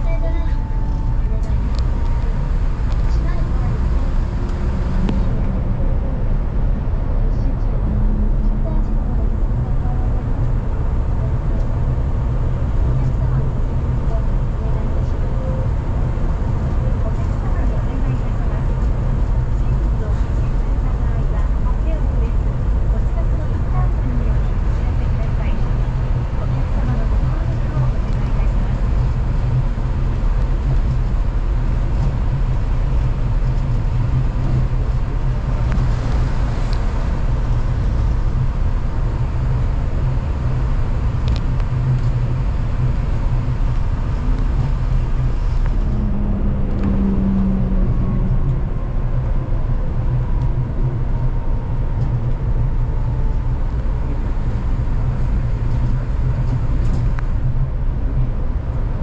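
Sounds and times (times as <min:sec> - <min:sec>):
train tyres rumbling: 0:00.0 - 0:59.0.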